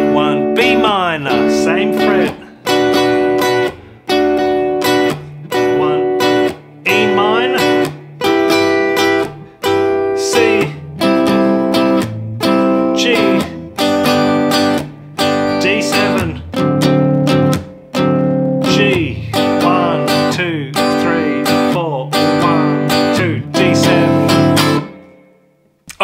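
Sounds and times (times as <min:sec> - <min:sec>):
guitar strumming slow chords: 0:00.0 - 0:26.0.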